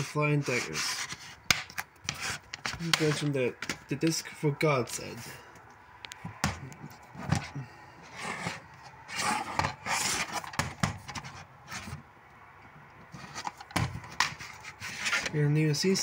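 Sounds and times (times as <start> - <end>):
plastic rubbing and scraping: 0.0 - 4.2, 6.2 - 12.1, 13.0 - 16.0.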